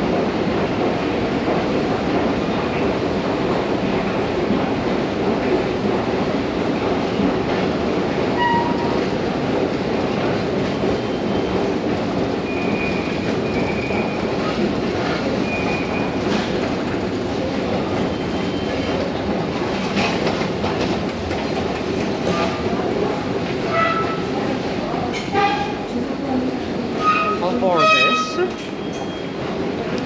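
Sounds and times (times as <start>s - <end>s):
rail clicks: 0.0s - 30.0s
subway train rumbling on rails: 0.0s - 30.0s.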